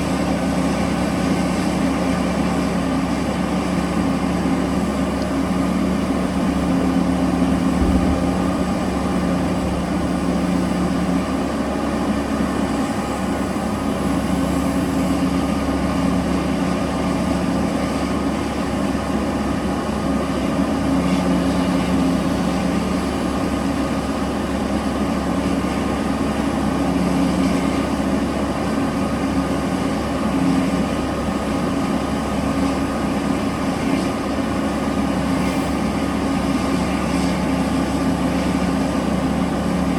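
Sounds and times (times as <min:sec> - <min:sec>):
large diesel engines droning: 0:00.0 - 0:39.9.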